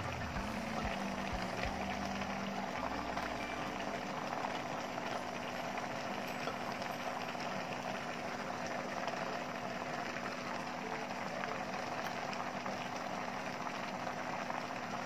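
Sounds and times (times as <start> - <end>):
broth bubbling in pot: 0.0 - 15.0
faint steady hum: 0.0 - 15.0.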